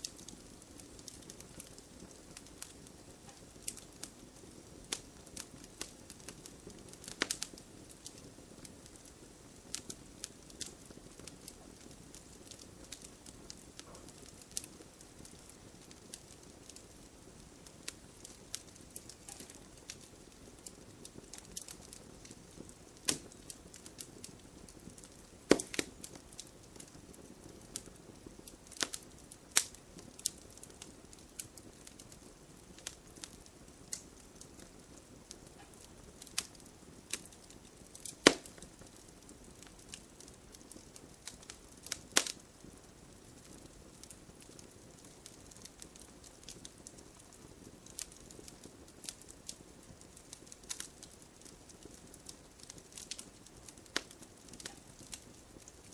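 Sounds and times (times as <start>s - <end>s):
low steady hiss: 0.0s - 55.9s
wood fire crackling and popping: 0.0s - 55.9s.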